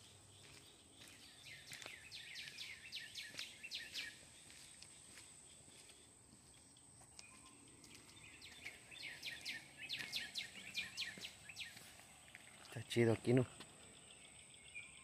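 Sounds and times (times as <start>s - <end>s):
bird chirping: 0.0s - 15.0s
faint outdoor hiss: 0.0s - 15.0s.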